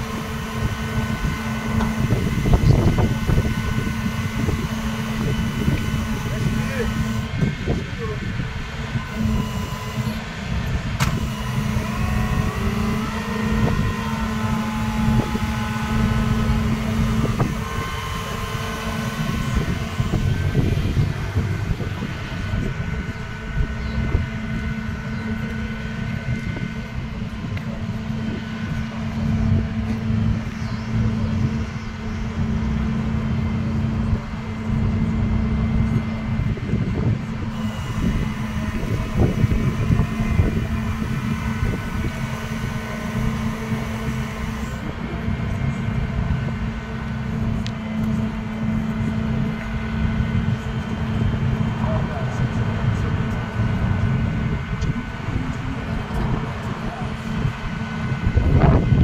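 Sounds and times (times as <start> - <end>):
truck engine humming: 0.0 - 59.0.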